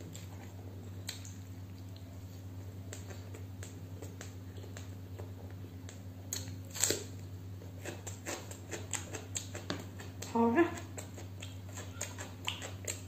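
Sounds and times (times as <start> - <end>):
steady low hum: 0.0 - 13.0
mouth clicks and chewing: 0.1 - 2.1, 2.8 - 7.1, 7.8 - 13.0.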